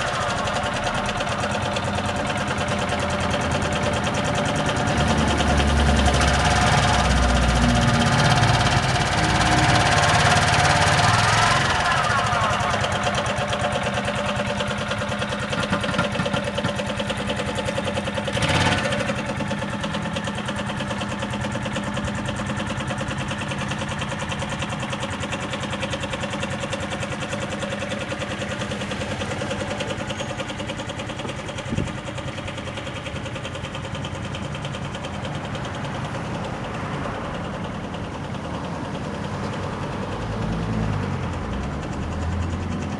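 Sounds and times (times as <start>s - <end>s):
scooter engine idling: 0.0s - 42.9s.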